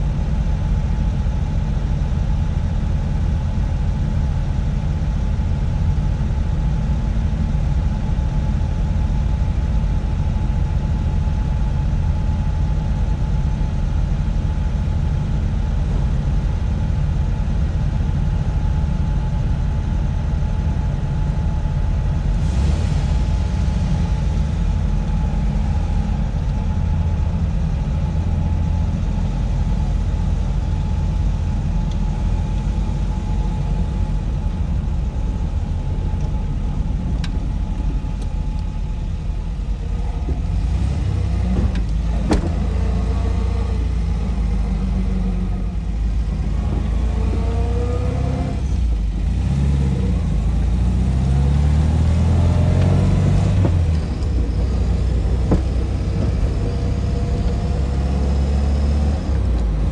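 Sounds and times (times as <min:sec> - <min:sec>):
engines idling: 0:00.0 - 0:59.9.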